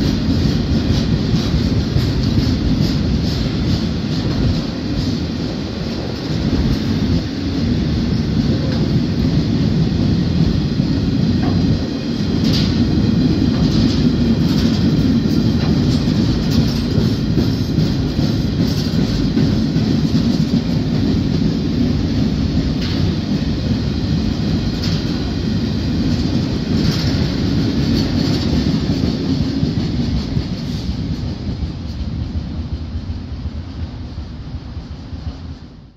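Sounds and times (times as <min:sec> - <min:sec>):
freight train wheels rumbling: 0:00.0 - 0:35.9.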